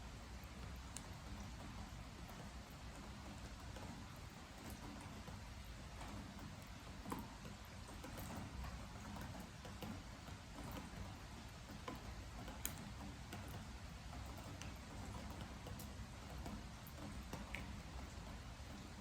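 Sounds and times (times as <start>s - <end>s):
steady rain: 0.0s - 19.0s
water drops ticking on wooden deck: 0.1s - 19.0s.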